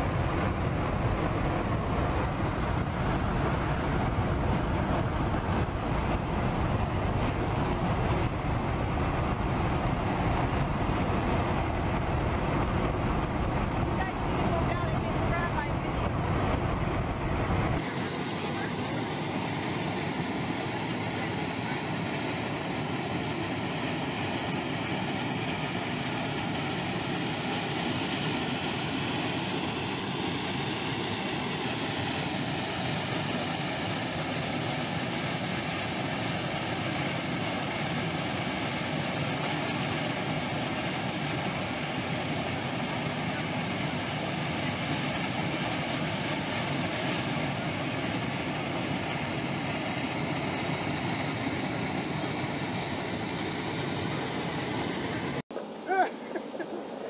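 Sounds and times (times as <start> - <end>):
steam jet rushing: 0.0 - 57.0.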